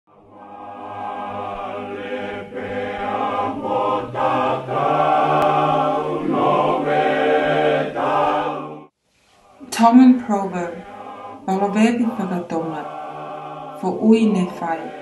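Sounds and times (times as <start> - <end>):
choir singing held chords: 0.1 - 15.0.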